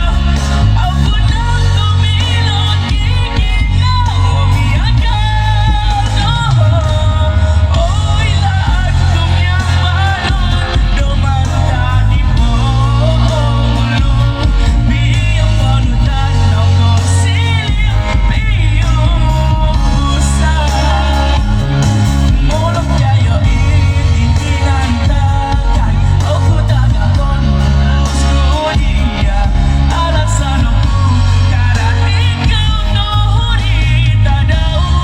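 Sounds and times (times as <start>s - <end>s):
backing music with heavy bass: 0.0s - 35.0s
person singing with vibrato: 0.0s - 35.0s.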